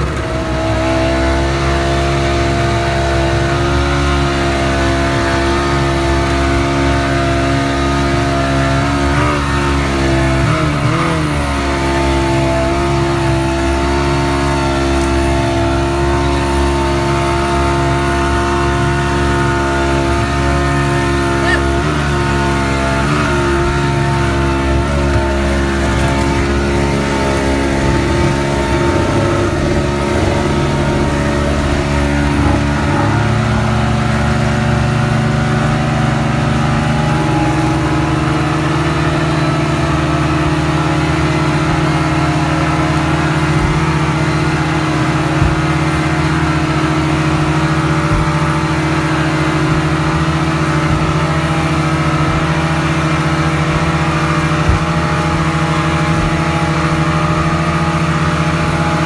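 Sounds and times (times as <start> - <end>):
outboard motors droning: 0.0 - 59.0
water rushing: 0.0 - 59.0.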